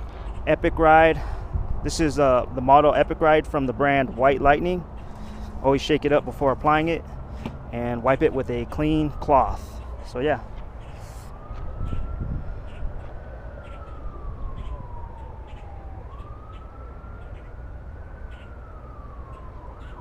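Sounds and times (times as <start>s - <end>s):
siren wailing: 0.0s - 20.0s.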